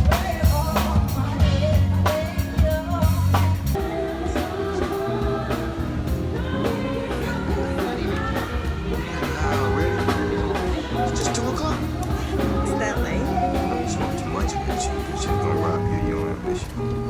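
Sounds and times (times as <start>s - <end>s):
pop song with vocals: 0.0s - 17.0s.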